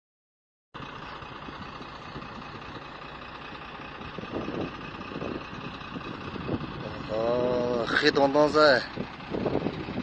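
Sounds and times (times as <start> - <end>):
vehicle engine running: 0.8 - 10.0.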